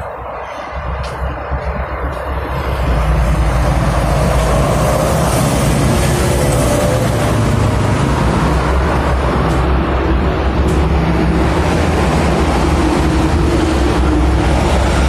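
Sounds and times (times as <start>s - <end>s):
road traffic: 0.0s - 15.0s
vehicle passing close: 2.2s - 15.0s.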